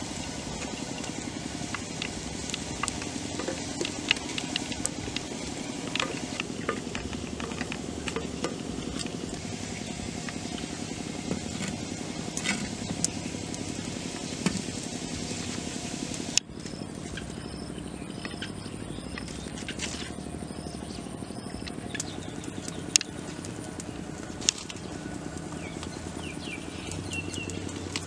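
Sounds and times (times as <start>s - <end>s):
steady low drone: 0.0s - 28.0s
wood fire crackling: 0.0s - 28.0s.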